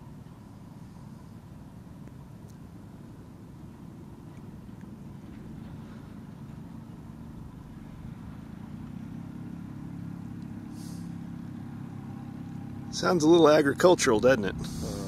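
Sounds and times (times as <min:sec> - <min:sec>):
aircraft piston engine rumble: 0:00.0 - 0:15.0.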